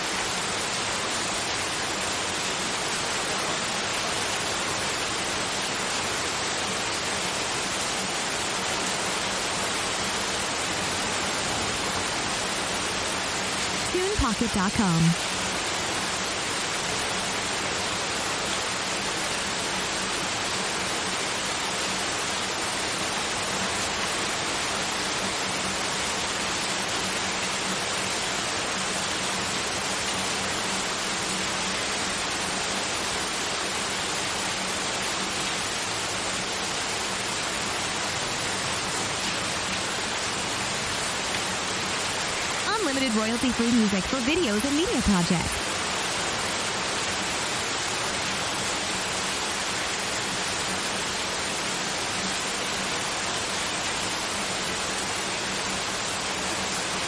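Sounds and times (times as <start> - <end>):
synthetic white noise hiss: 0.0 - 57.0.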